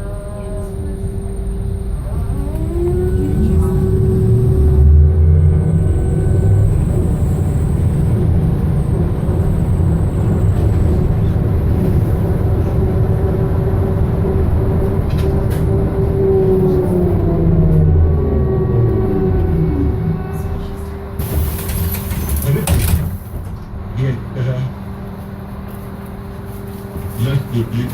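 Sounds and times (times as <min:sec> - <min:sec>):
trolleybus rumble and hum: 0:00.0 - 0:27.9.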